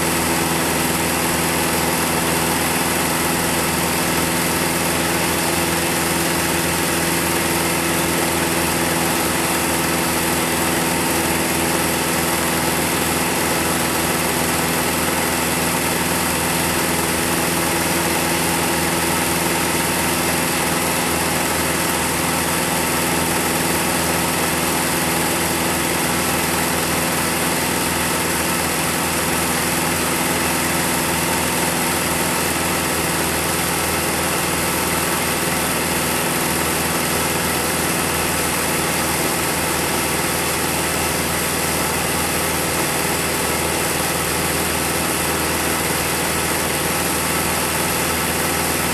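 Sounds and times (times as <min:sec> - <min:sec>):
film projector whirring: 0:00.0 - 0:48.9.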